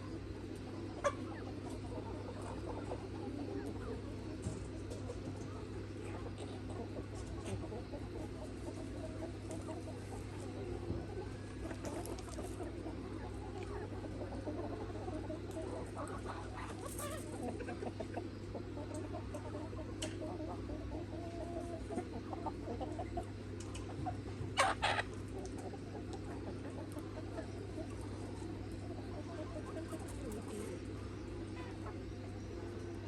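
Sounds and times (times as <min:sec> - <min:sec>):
chickens clucking: 0:00.0 - 0:33.0
steady low hum: 0:00.0 - 0:33.0
chicken squawk: 0:00.8 - 0:33.0.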